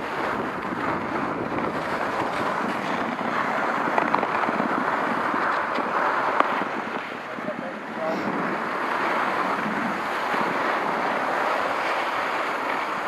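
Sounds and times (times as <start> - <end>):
skis scraping over snow: 0.0 - 13.0
wind on microphone: 0.0 - 13.0.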